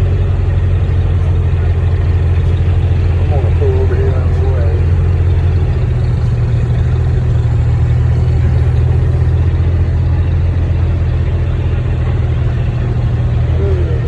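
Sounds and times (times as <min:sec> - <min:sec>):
cart engine idling: 0:00.0 - 0:14.0.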